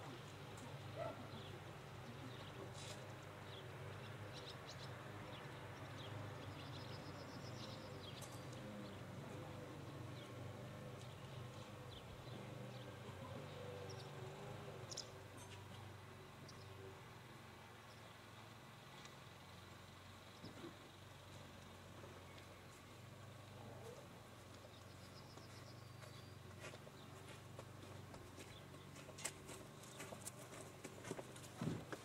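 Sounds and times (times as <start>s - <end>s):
distant small birds chirping: 0.1s - 31.5s.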